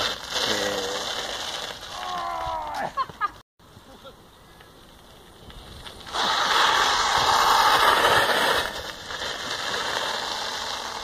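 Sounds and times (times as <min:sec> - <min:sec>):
bike tyre skidding on dirt: 0:00.0 - 0:03.2, 0:04.8 - 0:11.0.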